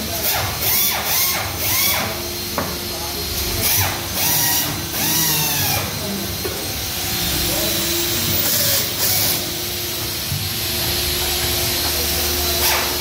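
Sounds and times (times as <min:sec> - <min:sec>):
steady machine hum: 0:00.0 - 0:13.0
workers talking indistinctly: 0:00.0 - 0:13.0.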